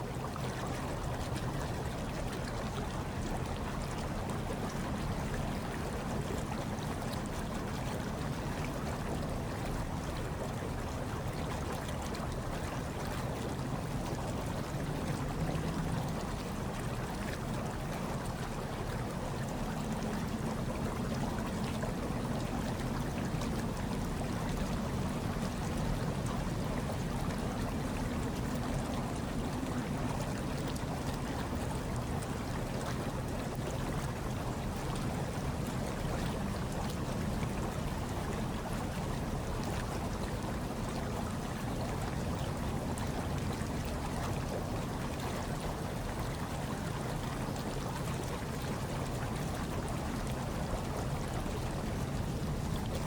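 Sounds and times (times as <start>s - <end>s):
hot tub water bubbling: 0.0s - 53.0s.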